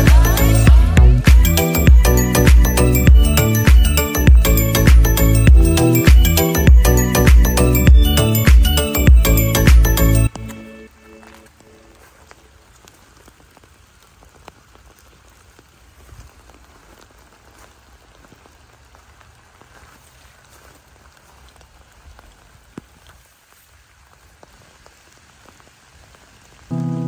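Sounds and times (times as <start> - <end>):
rain falling: 0.0 - 27.0
raindrops ticking close by: 1.1 - 27.0.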